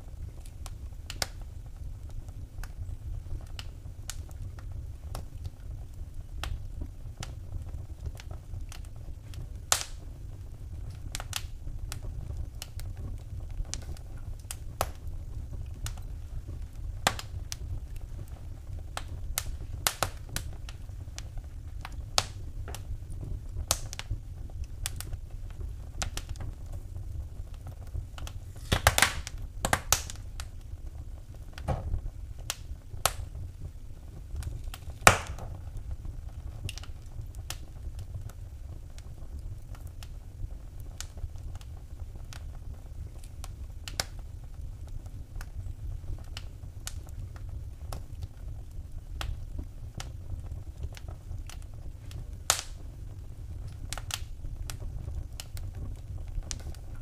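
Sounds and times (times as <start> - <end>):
low steady rumble: 0.0 - 57.0
wood fire crackling: 0.0 - 57.0.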